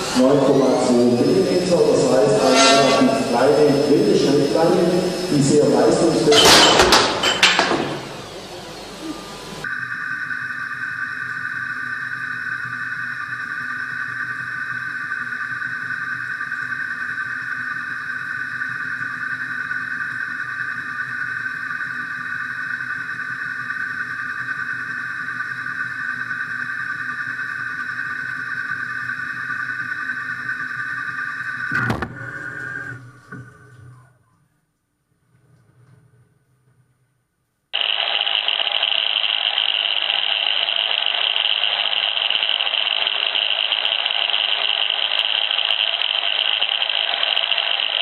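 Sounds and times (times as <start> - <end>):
machine high-pitched whine: 0.0 - 34.2, 37.8 - 48.0.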